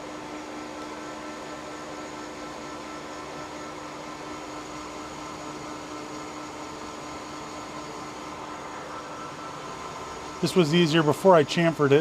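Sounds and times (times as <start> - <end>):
metal lathe humming: 0.0 - 12.0.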